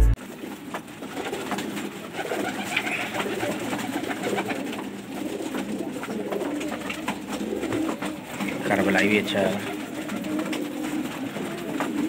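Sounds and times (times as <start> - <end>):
pigeons cooing: 0.2 - 12.0.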